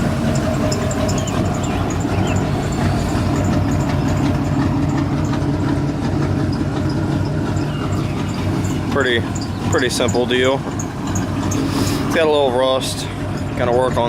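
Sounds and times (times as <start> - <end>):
v-eight engine idling: 0.0 - 14.0.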